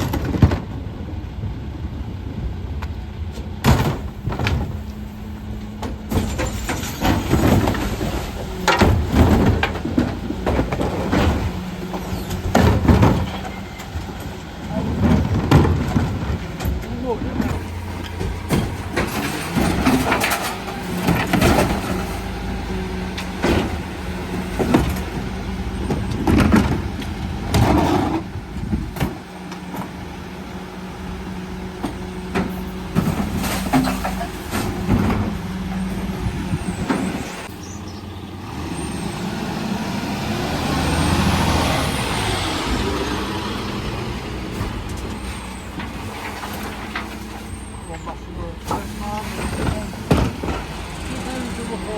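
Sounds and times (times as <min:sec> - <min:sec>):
bins banging and clattering: 0:00.0 - 0:01.5, 0:03.2 - 0:51.9
truck engine and hydraulics humming: 0:00.0 - 0:51.9.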